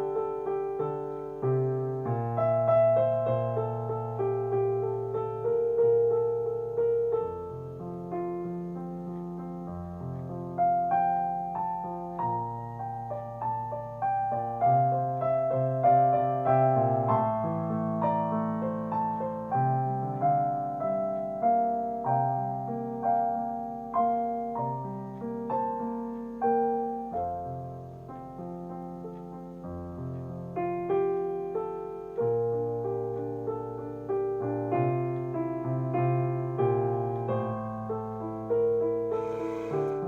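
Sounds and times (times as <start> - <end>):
slow piano music: 0.0 - 40.0.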